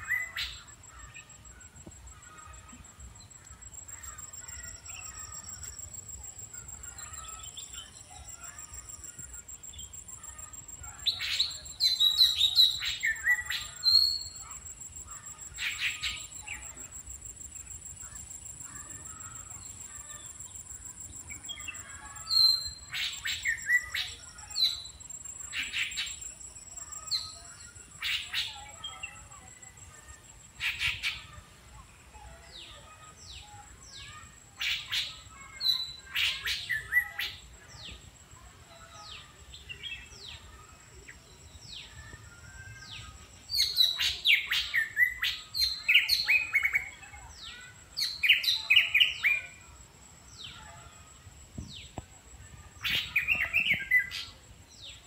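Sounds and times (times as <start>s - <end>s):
songbirds chirping and whistling: 0.0s - 31.4s, 39.0s - 49.6s, 51.6s - 55.0s.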